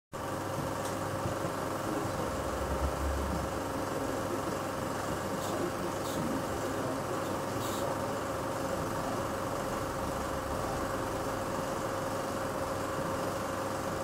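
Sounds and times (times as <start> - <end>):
constant hum: 0.2 - 14.0
film projector whirring: 0.2 - 14.0.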